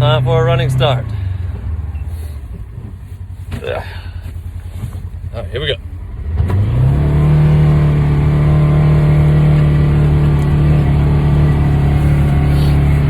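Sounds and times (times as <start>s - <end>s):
utility vehicle engine at high revs: 0.0s - 3.0s, 4.8s - 13.0s.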